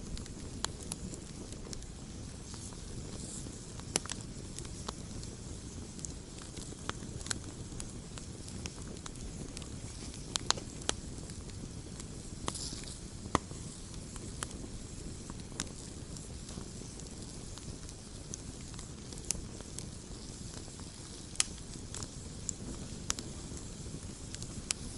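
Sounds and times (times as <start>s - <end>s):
campfire crackling: 0.0s - 24.9s
fire hiss: 0.0s - 24.9s.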